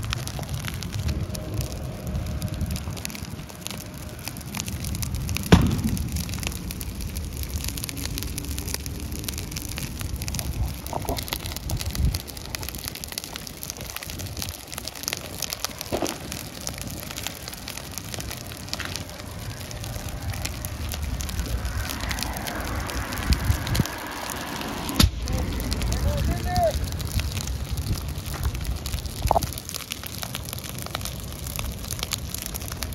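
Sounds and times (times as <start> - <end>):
fire crackling and popping: 0.0 - 32.9
low rumble: 0.0 - 32.9.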